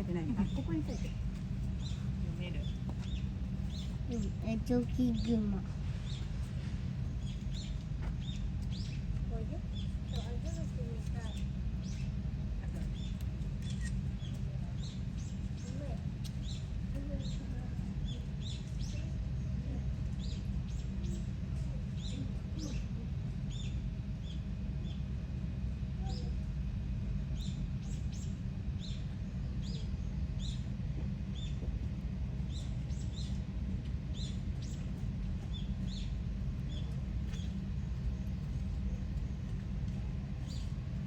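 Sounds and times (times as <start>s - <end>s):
small birds chirping: 0.0s - 25.1s, 27.4s - 41.0s
steady low rumble: 0.0s - 41.0s.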